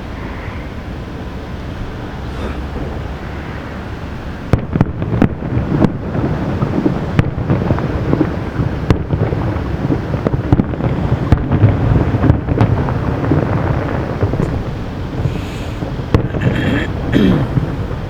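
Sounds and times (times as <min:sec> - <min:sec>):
fireworks booms rumbling: 0:02.0 - 0:18.0
sharp fireworks bangs: 0:02.1 - 0:18.0.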